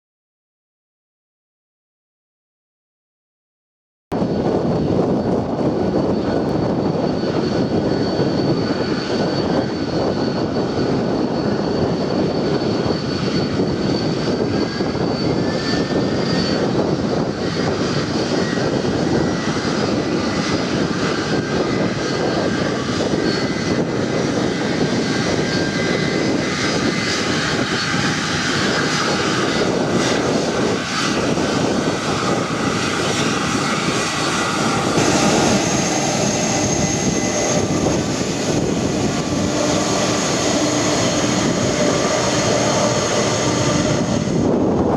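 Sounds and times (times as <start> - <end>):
high engine whine: 4.1 - 44.9
jet engines roaring: 4.1 - 44.9.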